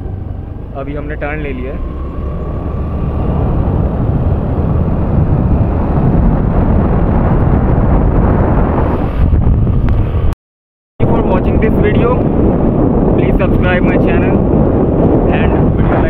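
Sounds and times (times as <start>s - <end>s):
wind buffeting microphone: 0.0s - 10.4s, 11.0s - 16.0s.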